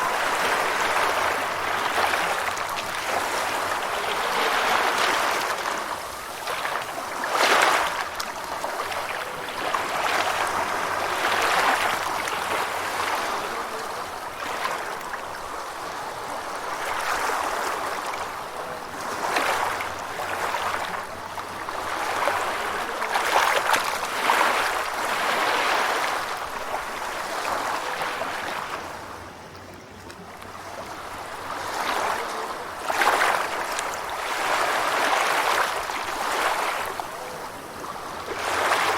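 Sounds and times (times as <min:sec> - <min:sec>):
ocean waves washing in: 0:00.0 - 0:29.5, 0:30.1 - 0:38.9.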